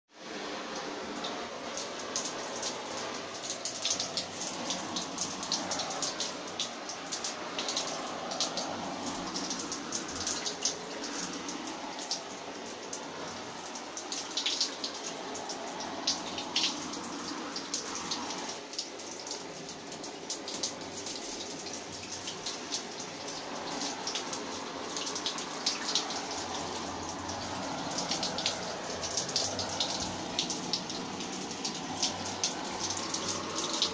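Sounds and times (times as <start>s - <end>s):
water spraying on jacket: 0.2s - 33.9s.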